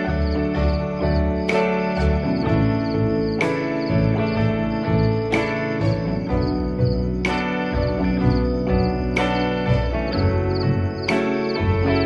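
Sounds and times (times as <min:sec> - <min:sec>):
calm ambient music: 0:00.0 - 0:12.0.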